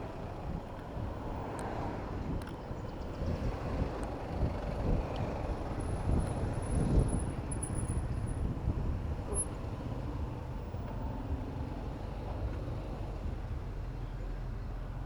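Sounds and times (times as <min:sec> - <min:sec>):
road traffic rumble: 0:00.0 - 0:15.0
wind buffeting microphone: 0:00.1 - 0:13.7.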